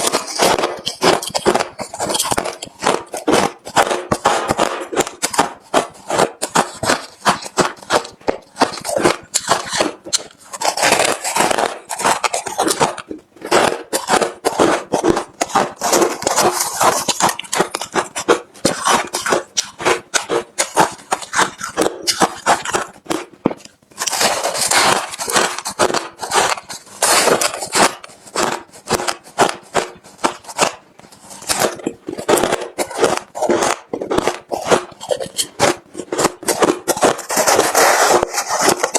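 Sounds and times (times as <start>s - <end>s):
chewing crushed ice: 0.0s - 38.9s.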